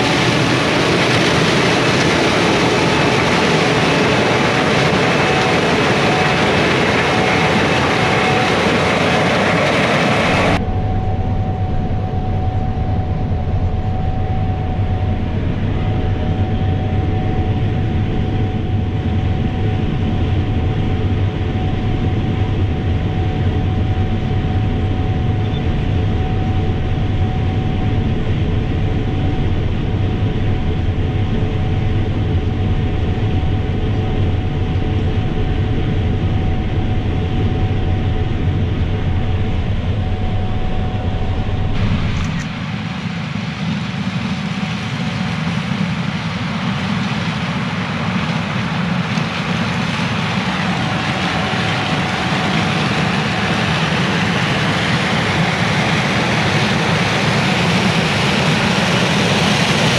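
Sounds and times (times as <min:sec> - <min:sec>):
combine machine drone: 0:00.0 - 0:59.9.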